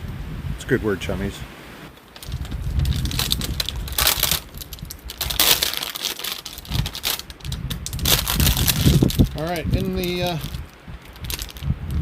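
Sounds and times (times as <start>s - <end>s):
low wind rumble on microphone: 0.0s - 12.0s
packaging crinkling: 2.0s - 12.0s.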